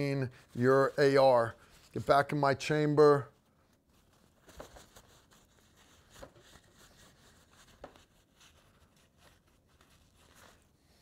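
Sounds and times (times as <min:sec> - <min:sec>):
paper towel rustling: 0:00.0 - 0:11.0.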